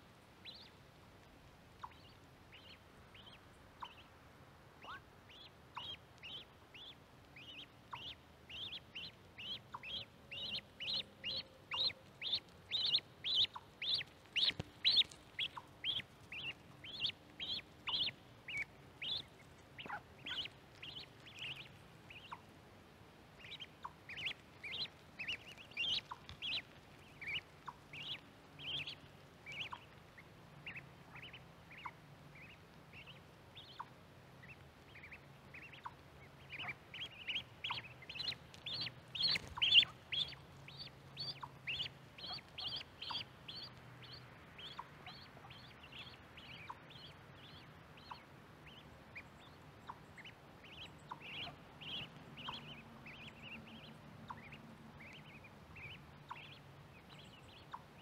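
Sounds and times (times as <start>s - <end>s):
ducklings peeping: 0.4s - 58.0s.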